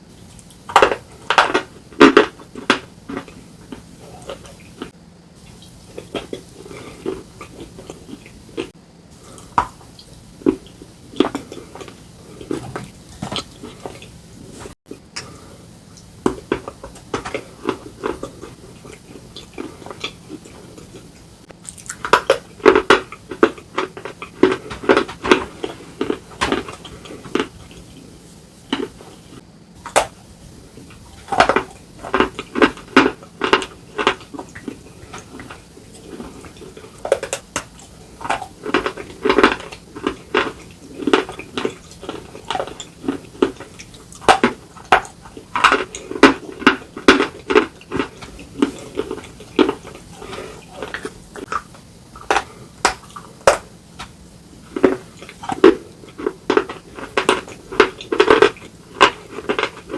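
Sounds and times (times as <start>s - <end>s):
slate being chewed crunching: 0.1s - 59.9s.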